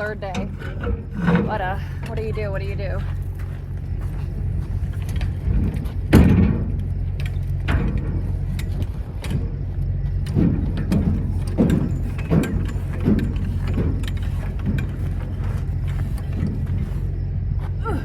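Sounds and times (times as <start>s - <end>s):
metallic knocks and clanks: 0.0s - 16.9s
truck engine idling: 0.0s - 18.0s.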